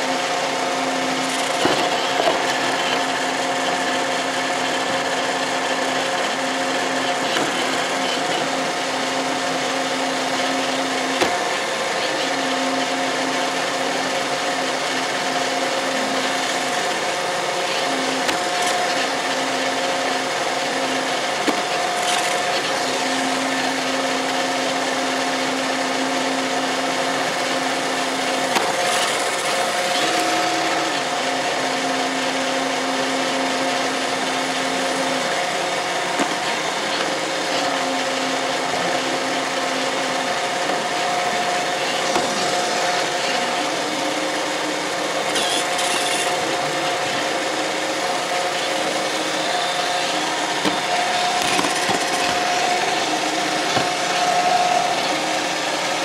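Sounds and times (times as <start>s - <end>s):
robot vacuum whirring: 0.0s - 56.0s.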